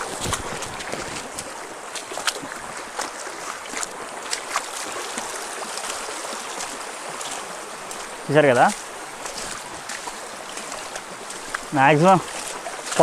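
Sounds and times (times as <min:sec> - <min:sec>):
people wading splashes: 0:00.0 - 0:13.0
stream rushing over stones: 0:00.0 - 0:13.0.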